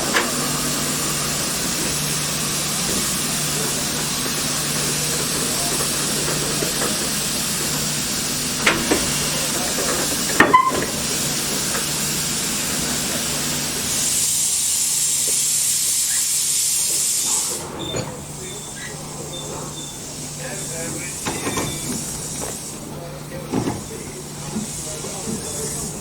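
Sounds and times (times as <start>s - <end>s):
high-pitched steam hiss: 0.0s - 17.8s, 18.4s - 26.0s
steam locomotive hissing: 0.0s - 26.0s.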